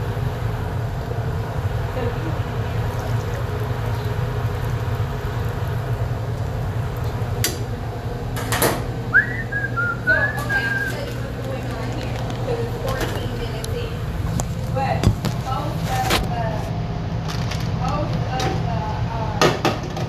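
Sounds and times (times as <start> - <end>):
kitchen equipment humming: 0.0 - 20.0.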